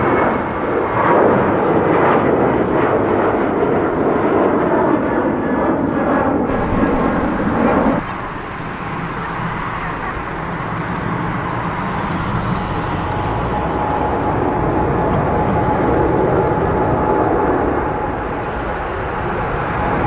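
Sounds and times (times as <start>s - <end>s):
jet engines climbing: 0.0s - 20.0s
jet engines run-up: 0.0s - 20.0s.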